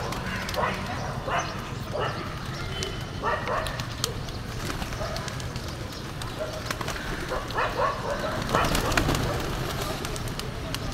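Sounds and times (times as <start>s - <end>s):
pigeons flapping wings: 0.0s - 1.0s, 2.4s - 10.9s
pigeon calls: 0.0s - 10.9s.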